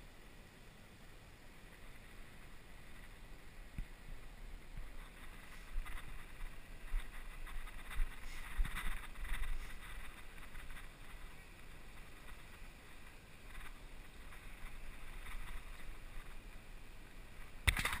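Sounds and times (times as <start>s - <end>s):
wind rumble on microphone: 1.6s - 18.0s.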